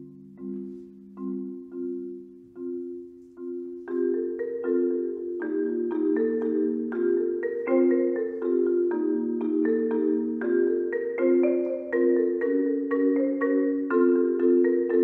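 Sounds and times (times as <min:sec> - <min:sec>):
marimba chords: 0:00.0 - 0:15.0.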